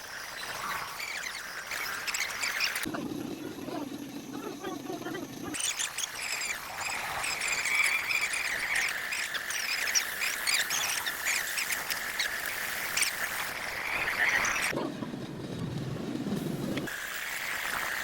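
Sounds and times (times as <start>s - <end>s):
chorus of trilling animals: 0.1s - 15.1s.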